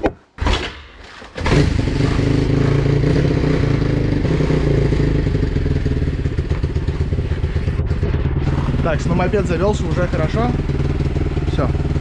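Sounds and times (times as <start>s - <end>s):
motorcycle engine kick-started: 0.4s - 12.0s.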